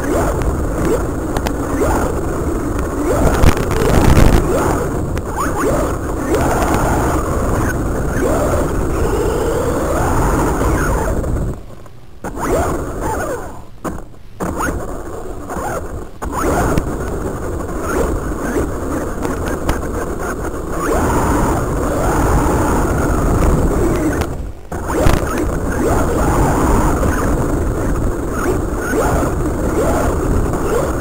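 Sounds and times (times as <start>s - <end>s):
electric motor and gears whining: 0.0s - 13.8s, 14.4s - 31.0s.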